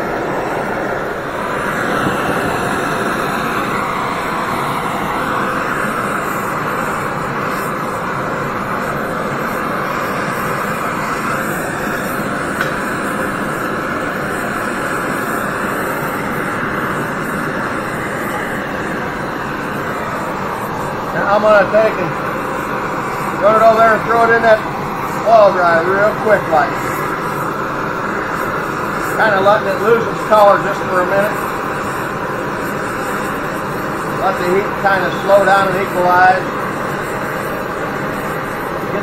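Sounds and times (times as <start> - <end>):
torch flame hissing: 0.0 - 39.0.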